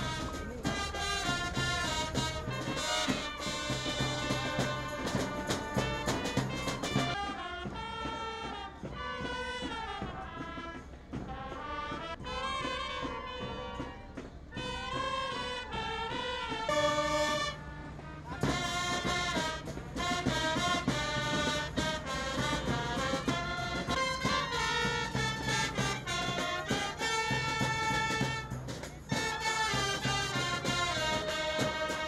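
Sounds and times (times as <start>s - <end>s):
brass band melody: 0.0s - 32.0s.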